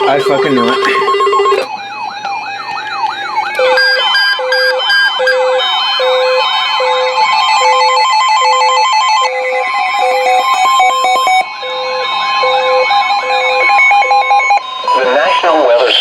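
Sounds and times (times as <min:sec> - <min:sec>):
alternating two-tone alarm: 0:00.0 - 0:16.0
electronic siren sweeping: 0:00.0 - 0:16.0
steady on-off beep: 0:00.0 - 0:16.0.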